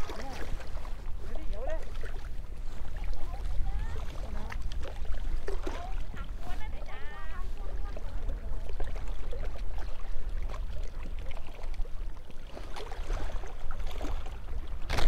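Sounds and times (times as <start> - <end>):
water lapping against boat: 0.0 - 15.0
wind rumbling on microphone: 0.0 - 15.0.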